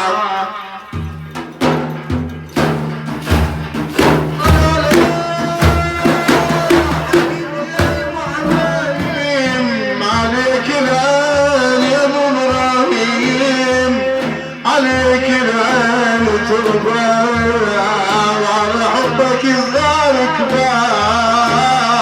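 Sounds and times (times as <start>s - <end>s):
low drum beats: 1.0s - 22.0s
man chanting a melody: 4.2s - 22.0s.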